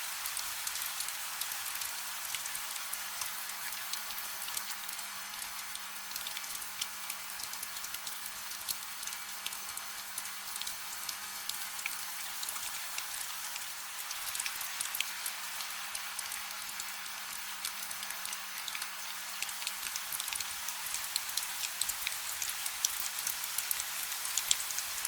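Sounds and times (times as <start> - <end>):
light rain pattering: 0.0 - 25.0.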